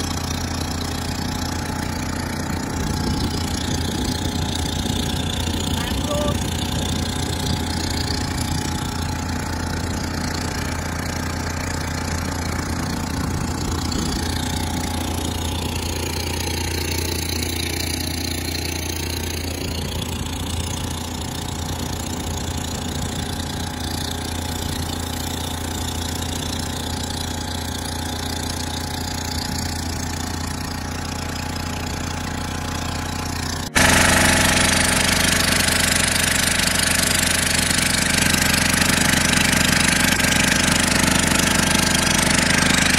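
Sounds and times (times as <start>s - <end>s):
motorboat engine humming: 0.0s - 42.9s.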